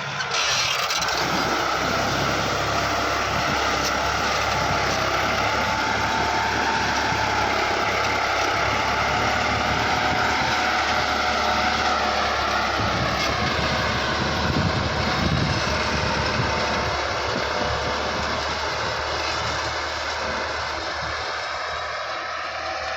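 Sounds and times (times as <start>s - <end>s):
tractor diesel engine under load: 0.0s - 22.9s.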